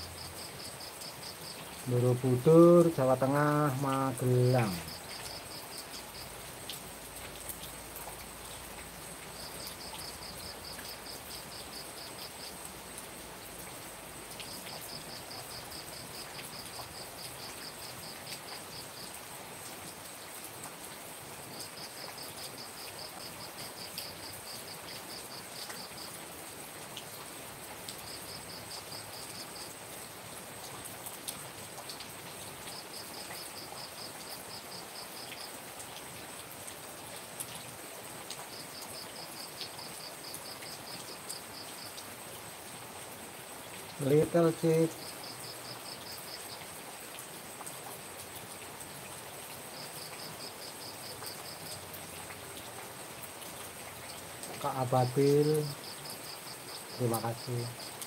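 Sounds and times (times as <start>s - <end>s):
insect chirping: 0.0s - 20.4s, 21.1s - 26.8s, 27.6s - 30.7s, 31.8s - 36.4s, 37.2s - 58.0s
steady rain: 0.0s - 58.0s.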